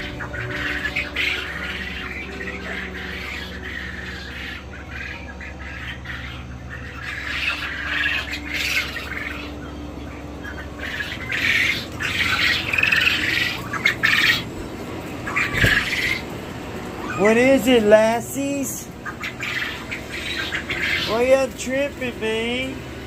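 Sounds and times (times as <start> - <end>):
caged birds squawking: 0.0 - 23.0
low hum: 0.0 - 23.0.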